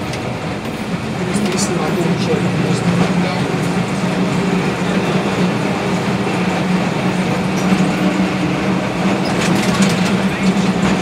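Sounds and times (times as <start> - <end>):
tram rolling on track: 0.0 - 11.0.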